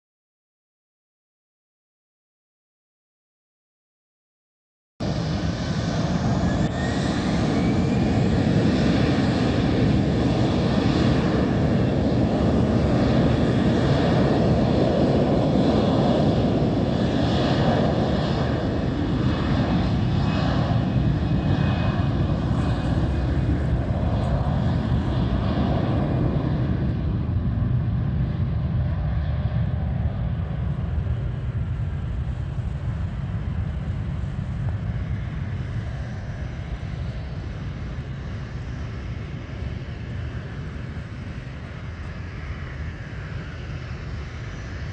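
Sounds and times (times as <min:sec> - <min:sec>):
airplane engines running: 0:05.0 - 0:44.9.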